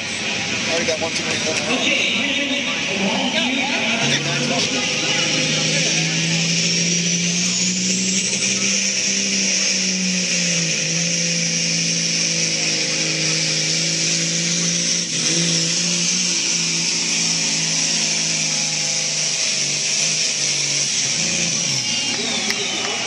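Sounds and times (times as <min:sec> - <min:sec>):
diesel truck engine under load: 0:00.0 - 0:23.0
loud steady hiss: 0:00.0 - 0:23.0.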